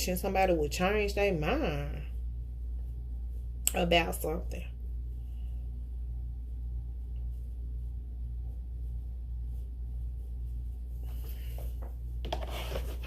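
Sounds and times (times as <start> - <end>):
steady low hum: 0.0 - 13.0
soft rustles: 0.2 - 13.0.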